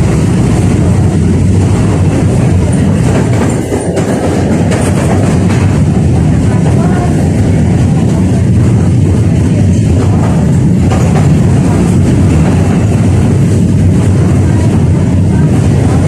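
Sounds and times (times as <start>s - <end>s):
tram wheels rumbling on rails: 0.0s - 16.0s.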